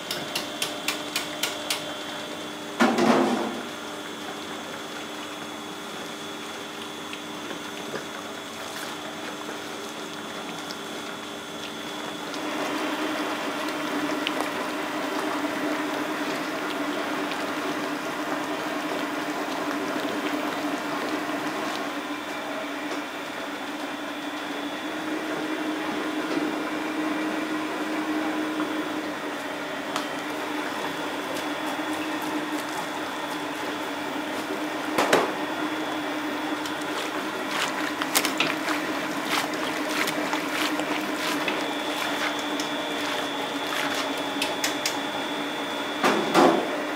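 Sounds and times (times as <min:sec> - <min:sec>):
factory machinery humming and churning: 0:00.0 - 0:46.9.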